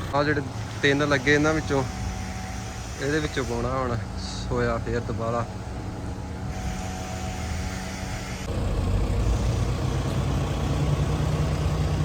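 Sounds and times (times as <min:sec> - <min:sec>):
machinery engine humming: 0:00.0 - 0:12.0
second motor rumbling: 0:00.0 - 0:12.0.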